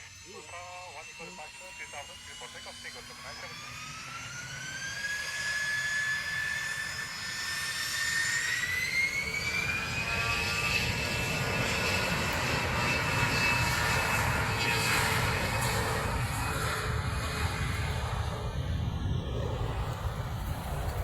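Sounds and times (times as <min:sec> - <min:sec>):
jet engines spooling up: 0:00.0 - 0:21.0.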